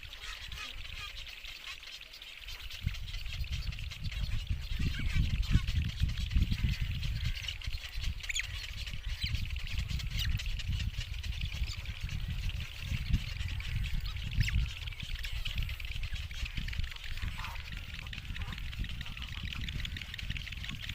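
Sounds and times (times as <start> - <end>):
bird chirps: 0.0 - 20.9
wind rumble on microphone: 2.4 - 20.9.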